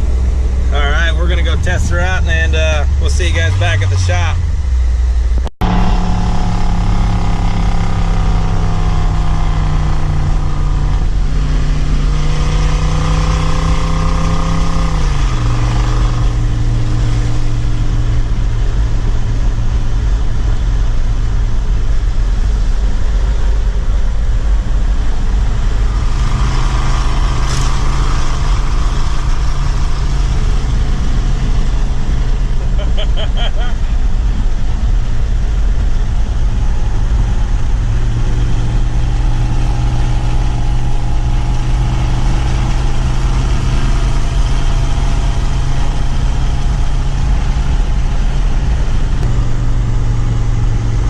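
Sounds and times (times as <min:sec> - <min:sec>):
truck engine exhaust note: 0:00.0 - 0:51.0.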